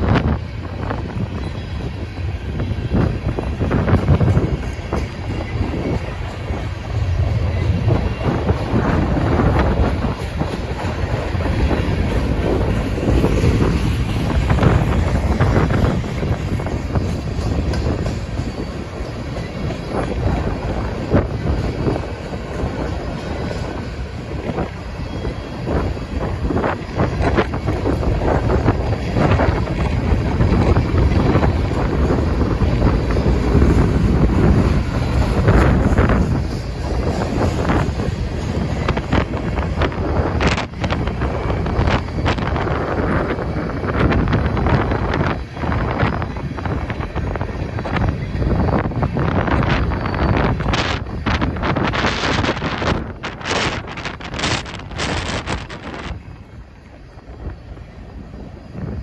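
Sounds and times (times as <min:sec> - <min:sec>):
steel wheels rumbling on rail: 0:00.0 - 0:59.0
wind buffeting microphone: 0:00.0 - 0:59.0.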